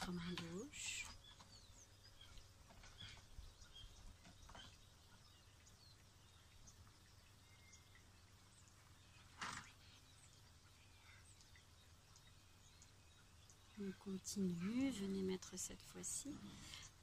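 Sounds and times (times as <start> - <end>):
faint birdsong chirps: 0.0 - 17.0
low steady hum: 0.0 - 17.0.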